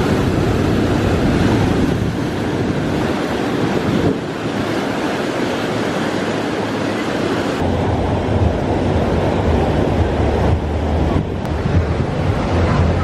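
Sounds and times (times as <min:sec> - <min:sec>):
wind buffeting microphone: 0:00.0 - 0:06.3, 0:07.2 - 0:13.0
steady rushing noise: 0:00.0 - 0:13.0.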